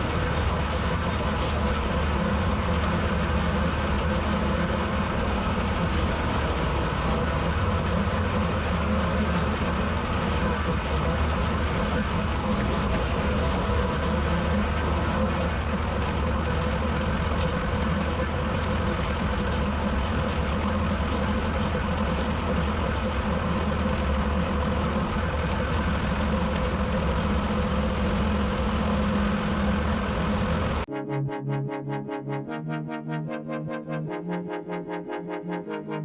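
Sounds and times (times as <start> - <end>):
tractor engine droning: 0.0 - 30.9.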